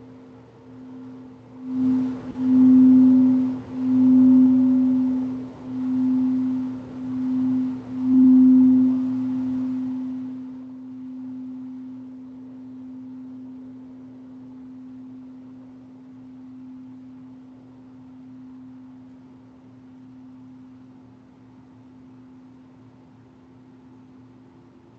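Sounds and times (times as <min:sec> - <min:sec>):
singing bowl ringing: 0:00.0 - 0:20.9.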